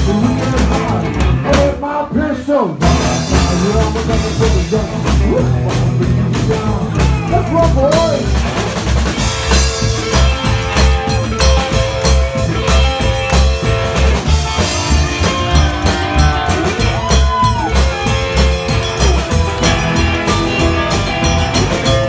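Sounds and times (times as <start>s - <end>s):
drum kit beat: 0.0s - 22.0s
electric guitar: 0.0s - 22.0s
live rock band playing: 0.0s - 22.0s.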